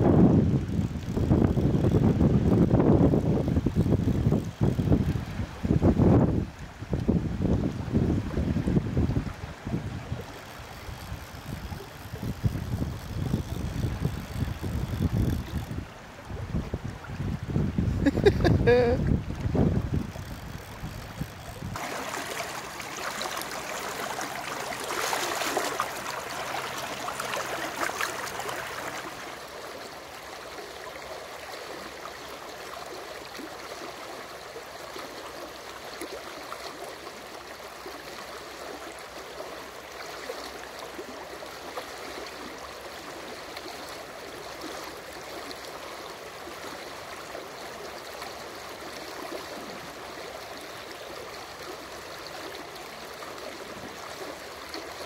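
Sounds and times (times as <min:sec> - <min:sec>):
river current rushing and gurgling: 0:00.0 - 0:55.0.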